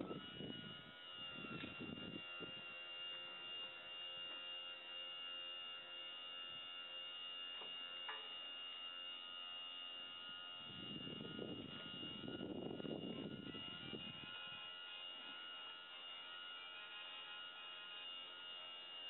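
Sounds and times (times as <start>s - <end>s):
electric motor humming: 0.0s - 19.0s.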